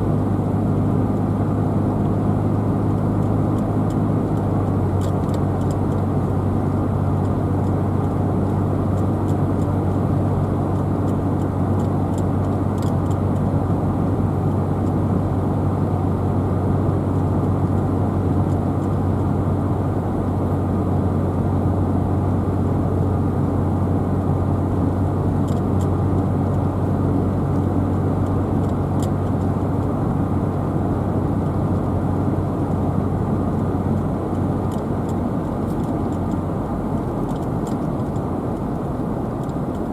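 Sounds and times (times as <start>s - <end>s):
car tyre and engine drone: 0.0s - 39.9s.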